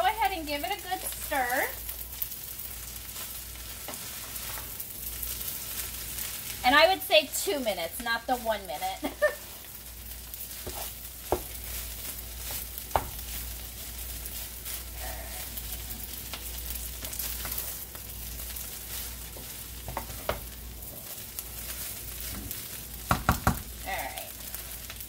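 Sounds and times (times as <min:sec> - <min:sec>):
rice sizzling in a pan: 0:00.0 - 0:25.0
wooden spatula scraping a pan: 0:00.1 - 0:22.8.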